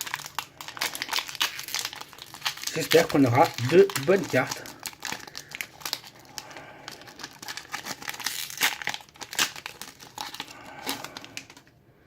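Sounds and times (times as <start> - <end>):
foil wrapper crinkling and ripping: 0.0 - 11.7.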